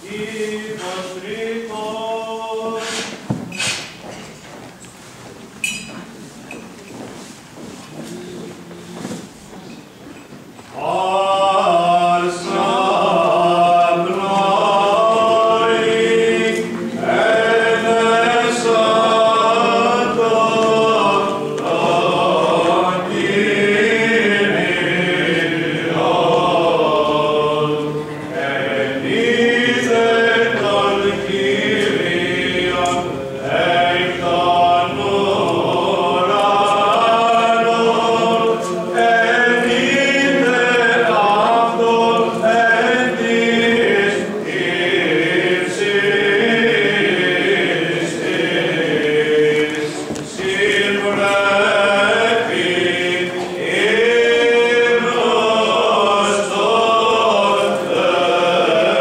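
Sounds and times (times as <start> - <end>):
choir chanting a cappella: 0.0 - 3.3, 10.7 - 59.0.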